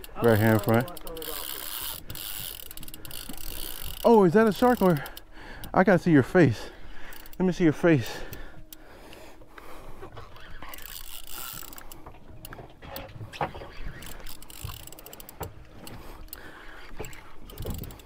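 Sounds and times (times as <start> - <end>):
fishing reel clicking: 0.0 - 12.6, 13.5 - 18.0.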